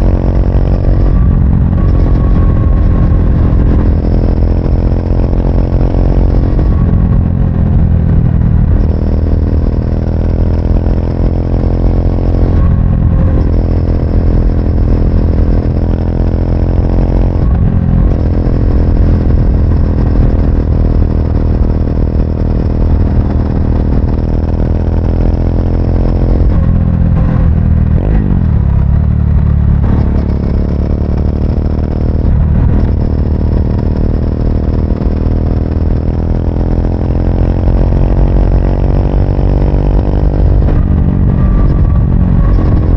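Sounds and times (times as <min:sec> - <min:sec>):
motorcycle engine shifting gears: 0:00.0 - 0:42.9.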